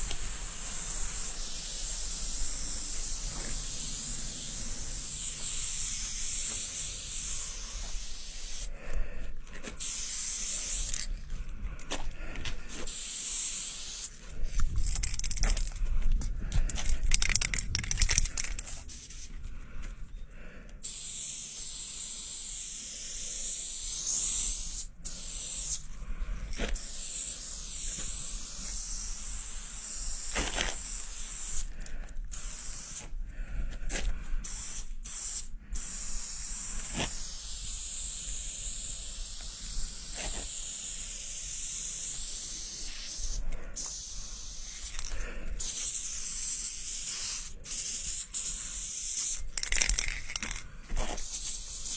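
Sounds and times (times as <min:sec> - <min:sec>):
spray paint can hissing: 0:00.0 - 0:08.8, 0:09.8 - 0:11.2, 0:12.7 - 0:15.8, 0:16.6 - 0:19.3, 0:20.8 - 0:25.9, 0:26.5 - 0:33.1, 0:34.4 - 0:51.9.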